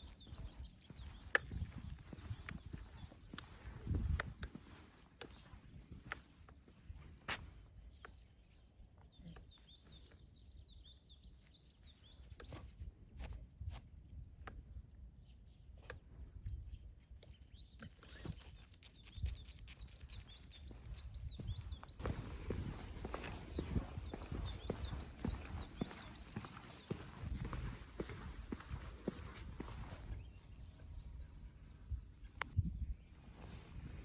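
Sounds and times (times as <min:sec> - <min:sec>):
songbird singing: 0:00.0 - 0:12.8, 0:14.2 - 0:33.2.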